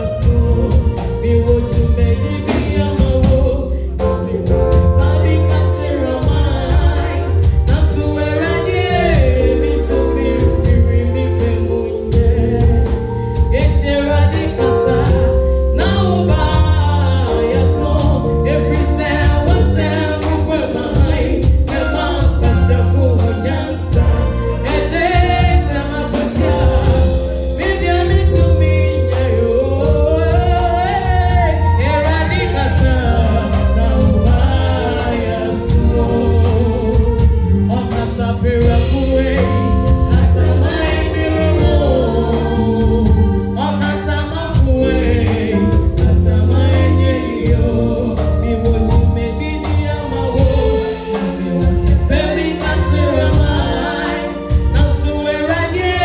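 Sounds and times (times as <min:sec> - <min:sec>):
amplified accompaniment with heavy bass: 0:00.0 - 0:56.0
backing singers: 0:00.0 - 0:56.0
woman singing through microphone: 0:00.0 - 0:56.0.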